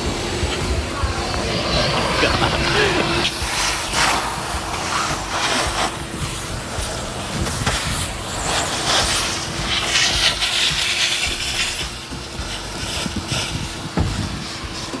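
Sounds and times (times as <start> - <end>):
vacuum motor hum: 0.0 - 15.0
vacuum suction rushing: 0.0 - 15.0.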